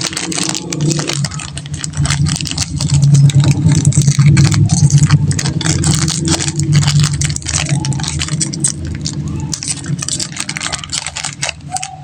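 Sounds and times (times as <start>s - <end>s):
candy wrappers crinkling: 0.0s - 12.0s
steady low rumble: 0.0s - 12.0s.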